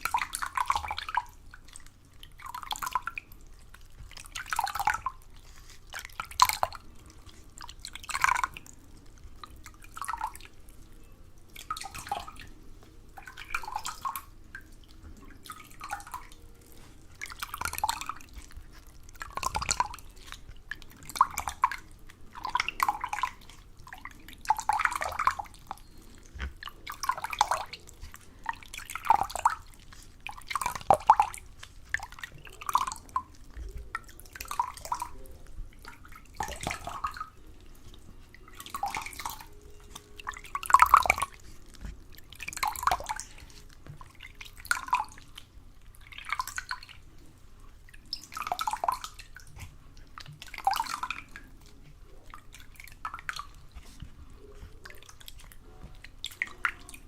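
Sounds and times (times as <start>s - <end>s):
water drips and splashes: 0.0s - 57.0s.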